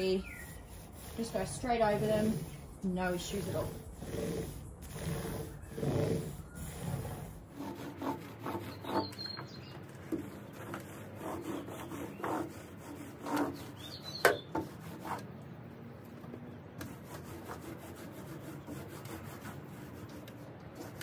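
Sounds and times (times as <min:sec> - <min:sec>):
roller rubbing on wood: 0:00.0 - 0:15.3, 0:16.8 - 0:21.0.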